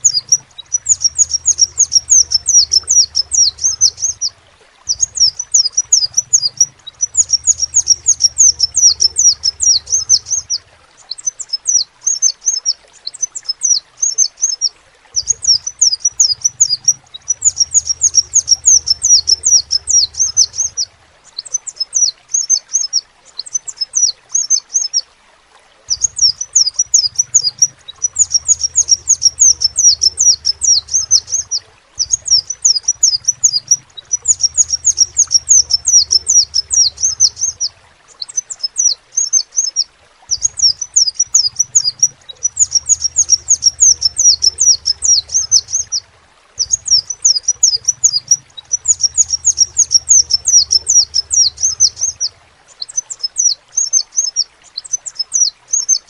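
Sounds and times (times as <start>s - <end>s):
bird chirping twitters: 0.0s - 25.0s, 25.9s - 46.0s, 46.6s - 56.0s.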